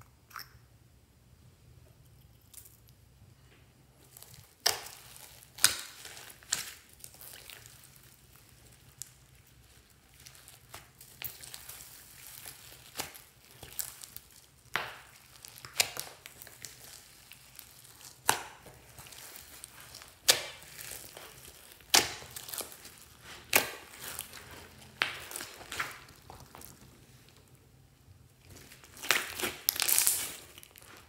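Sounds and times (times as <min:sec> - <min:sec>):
slime squishing and crackling: 0:04.0 - 0:31.0
slime popping: 0:04.1 - 0:27.3, 0:28.4 - 0:31.0.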